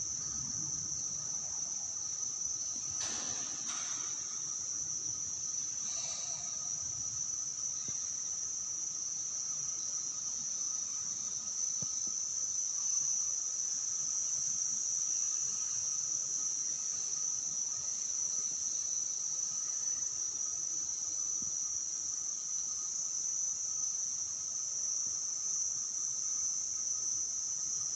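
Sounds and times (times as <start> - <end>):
insects droning shrilly: 0.0 - 27.9.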